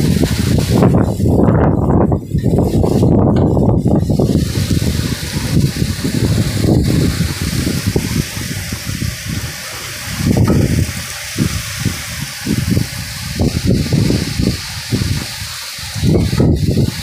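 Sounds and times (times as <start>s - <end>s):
heavy rain pouring: 0.0s - 17.0s
wind gusts buffeting microphone: 0.0s - 17.0s.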